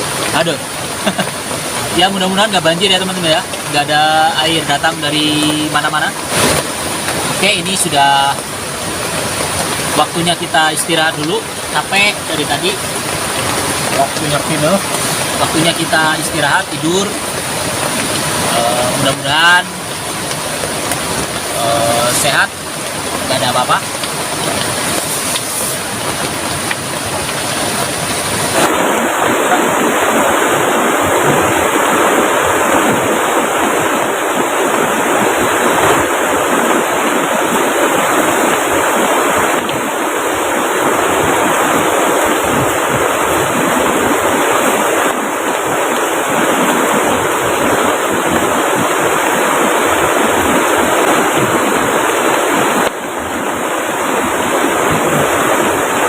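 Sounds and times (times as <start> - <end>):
heavy rain: 0.0 - 56.0
rushing river water: 0.0 - 56.0.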